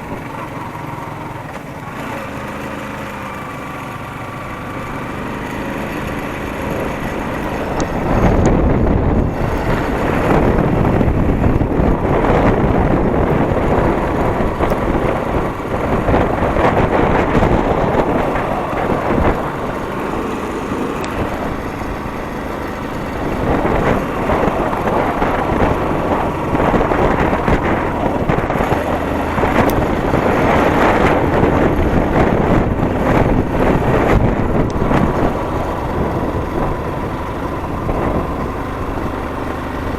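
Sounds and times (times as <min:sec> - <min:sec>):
wind noise on microphone: 0:00.0 - 0:00.8, 0:05.5 - 0:39.9
motorcycle engine running: 0:00.0 - 0:39.9.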